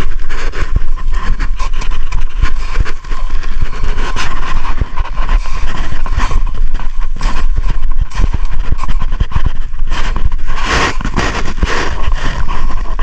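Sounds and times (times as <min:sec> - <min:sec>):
heavy low microphone rumble: 0:00.0 - 0:13.0.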